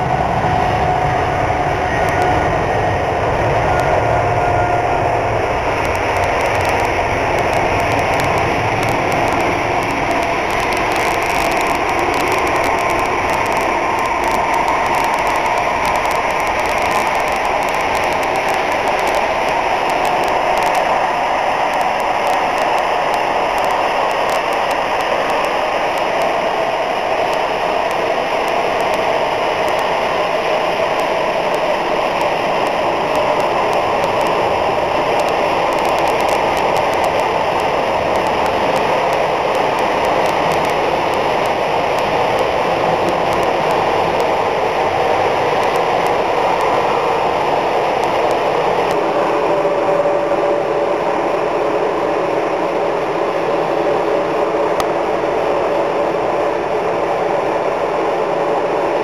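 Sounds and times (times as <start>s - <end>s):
jet engine deep rumble: 0.0s - 59.0s
jet engine whine: 0.0s - 59.0s.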